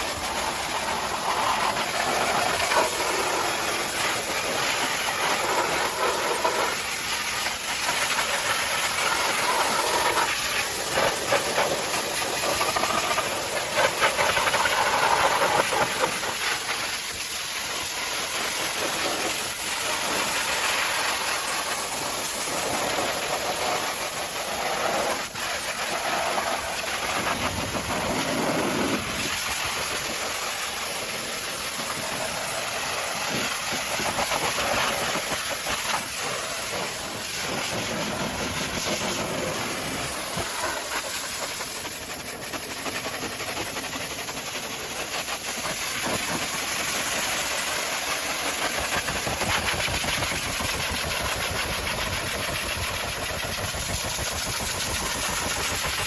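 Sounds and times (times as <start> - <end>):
pressure washer water jet: 0.0 - 56.0.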